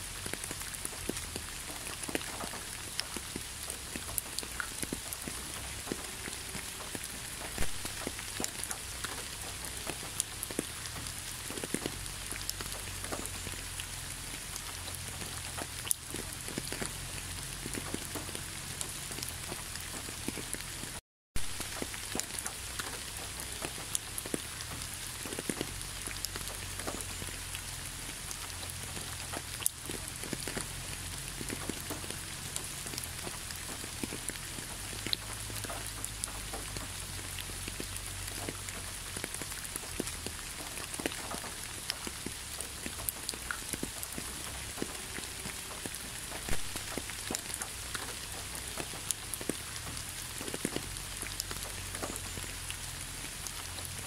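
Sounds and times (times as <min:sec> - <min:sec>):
rain hissing on road: 0:00.0 - 0:54.0
raindrops ticking: 0:00.0 - 0:54.0.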